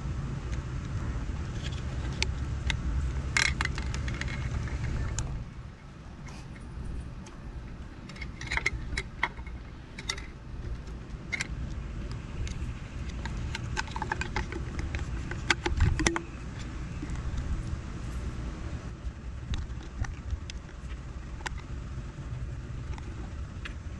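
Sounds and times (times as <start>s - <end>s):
wires rattling: 1.4s - 5.6s, 6.4s - 23.8s.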